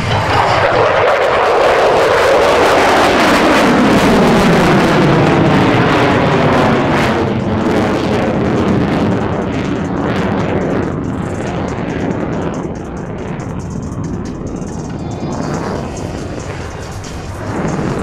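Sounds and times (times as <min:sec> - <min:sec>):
jet aircraft roaring: 0:00.0 - 0:18.0.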